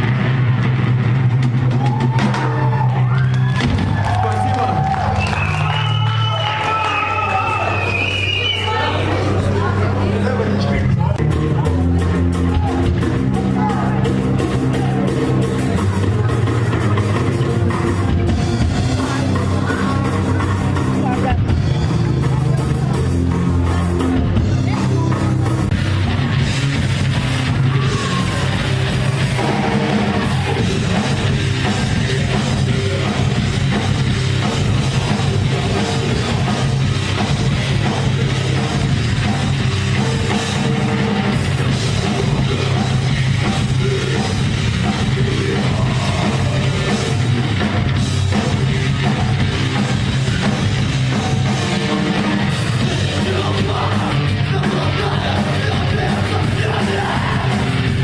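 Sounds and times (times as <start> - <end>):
heavy metal band playing: 0.0 - 58.0.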